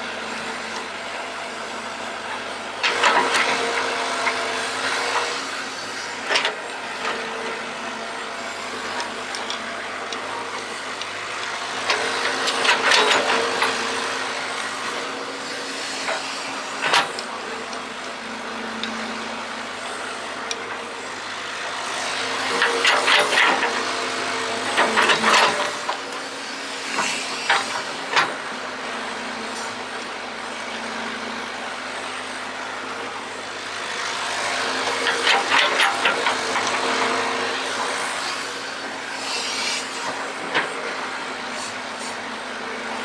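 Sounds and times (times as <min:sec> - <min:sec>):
excavator hum: 0:00.0 - 0:43.0.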